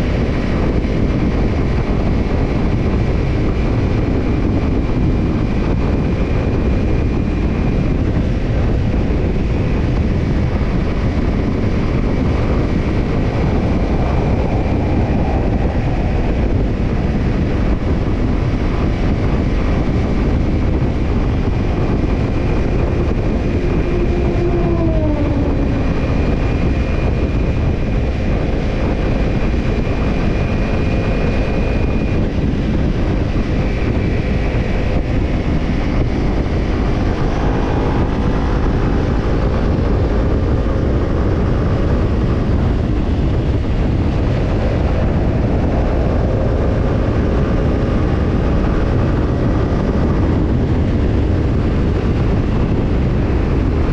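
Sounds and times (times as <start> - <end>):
motorcycle engine while riding: 0.0 - 53.9
wind noise on microphone: 0.0 - 53.9.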